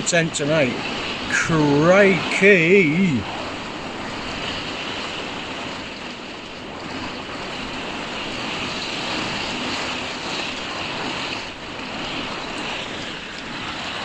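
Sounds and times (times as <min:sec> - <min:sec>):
heavy rain on caravan roof: 0:00.0 - 0:14.0.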